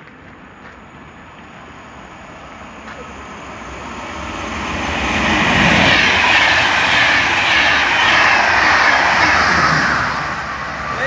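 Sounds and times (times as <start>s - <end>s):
train passing on rails: 0.0s - 11.0s.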